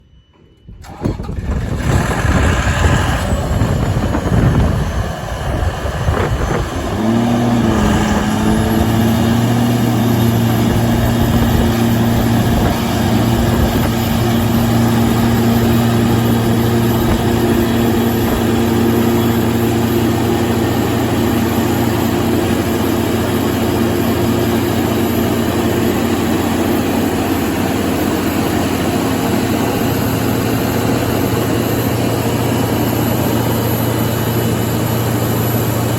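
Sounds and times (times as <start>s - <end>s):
diesel generator engine running: 0.6s - 35.9s.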